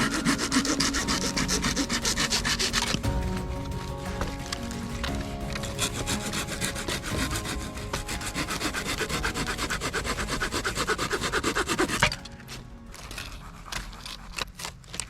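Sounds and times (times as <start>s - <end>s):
hand saw cutting firewood: 0.0s - 3.1s, 4.2s - 15.0s.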